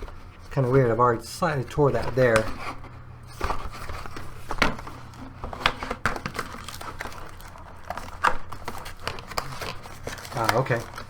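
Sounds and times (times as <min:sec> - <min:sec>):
packaging crackles: 0:00.0 - 0:11.0
packaging rustling and crinkling: 0:00.0 - 0:11.0.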